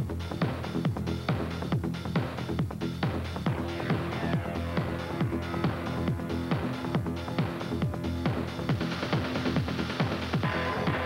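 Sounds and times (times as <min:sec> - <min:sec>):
electronic dance music: 0:00.0 - 0:11.0
fast kick drum beat: 0:00.0 - 0:11.0.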